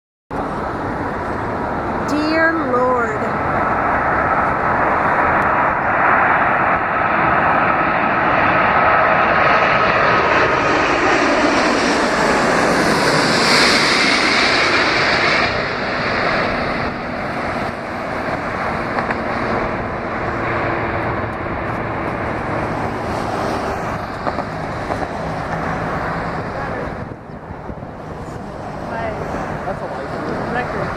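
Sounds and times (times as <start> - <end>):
jet airliner passing overhead: 0.3 - 30.9.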